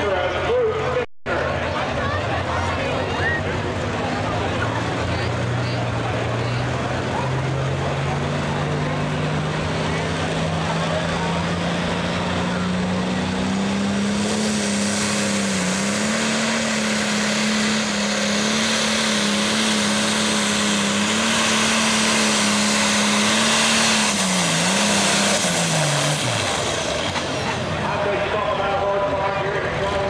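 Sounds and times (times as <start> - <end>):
tractor diesel engine at full power: 0.0 - 30.0.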